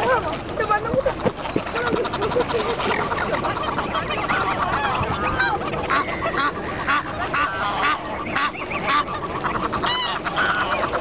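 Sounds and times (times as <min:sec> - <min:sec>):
waterfowl honking and quacking: 0:00.0 - 0:11.0.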